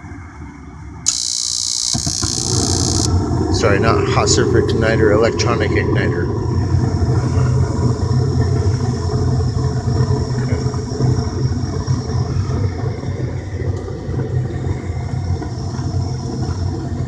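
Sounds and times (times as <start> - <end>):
furnace humming and rumbling: 0.0 - 17.0.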